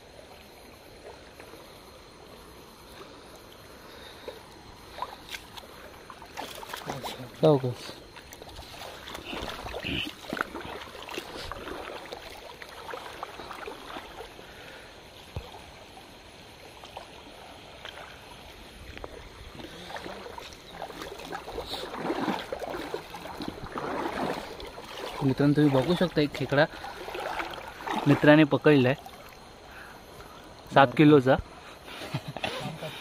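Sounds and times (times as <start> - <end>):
water splashing as people wade: 0.0 - 33.0.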